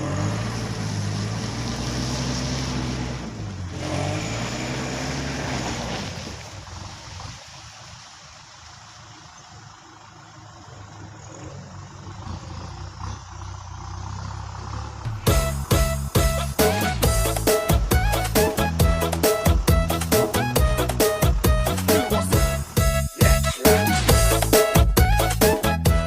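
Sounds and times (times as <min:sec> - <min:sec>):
tractor diesel engine running: 0:00.0 - 0:07.3, 0:08.3 - 0:26.0.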